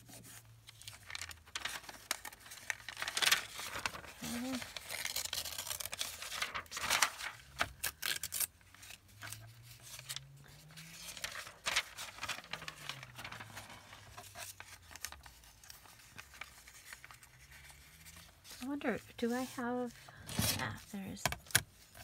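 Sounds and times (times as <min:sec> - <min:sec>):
paper ripping and rustling: 0:00.0 - 0:22.0.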